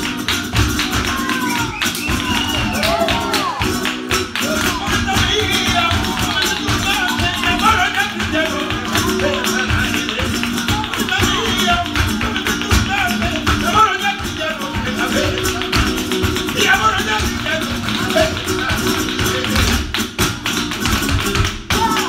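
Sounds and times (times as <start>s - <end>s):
dancer stamping and heel tapping: 0.0s - 22.0s
flamenco guitar: 0.0s - 22.0s.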